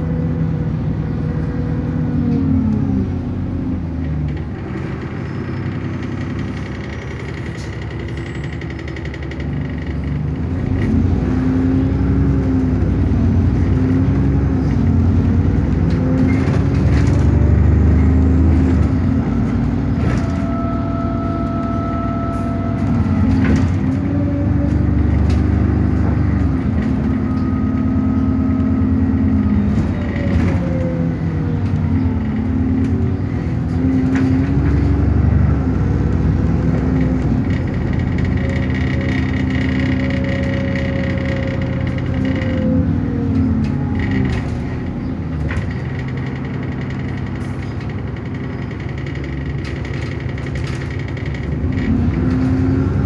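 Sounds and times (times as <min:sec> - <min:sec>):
bus engine accelerating: 0:00.0 - 0:53.0.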